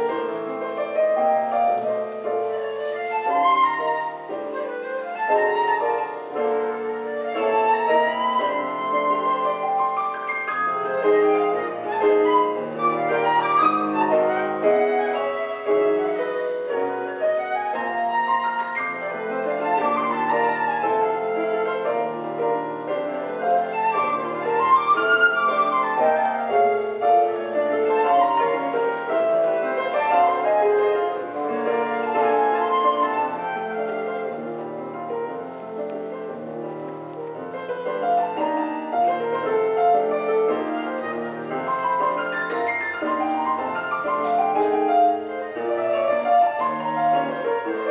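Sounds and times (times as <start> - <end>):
flute melody: 0.0 - 47.9
piano accompaniment: 0.0 - 47.9.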